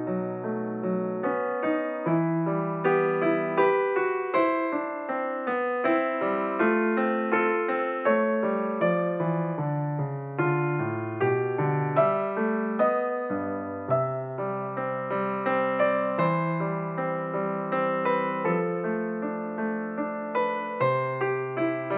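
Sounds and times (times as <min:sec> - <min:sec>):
gentle solo piano piece: 0:00.0 - 0:21.9.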